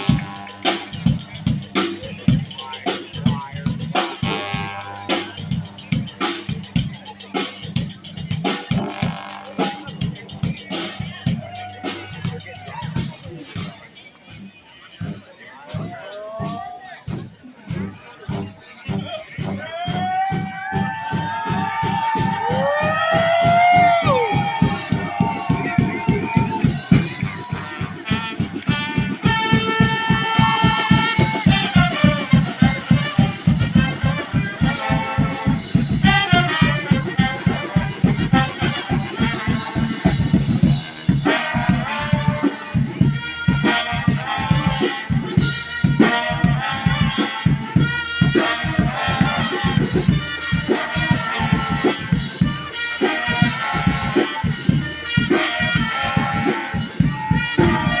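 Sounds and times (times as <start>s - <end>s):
brass band playing: 0.0s - 13.7s, 17.7s - 58.0s.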